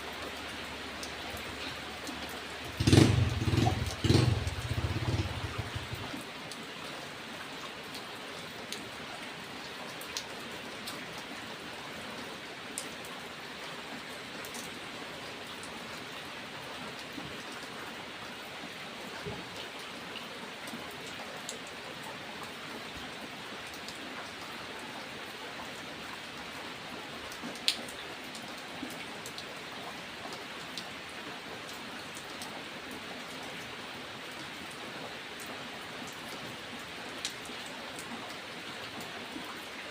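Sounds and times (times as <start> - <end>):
raindrops ticking on surface: 0.0 - 39.9
steady rain: 0.0 - 39.9.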